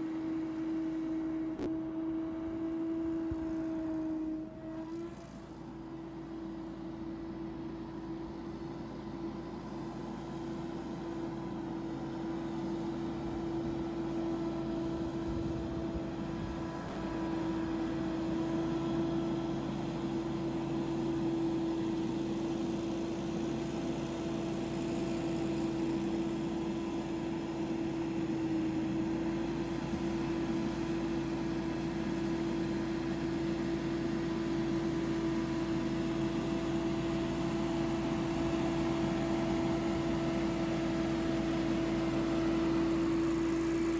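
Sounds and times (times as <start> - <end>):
leaf blower running: 0.0 - 43.9.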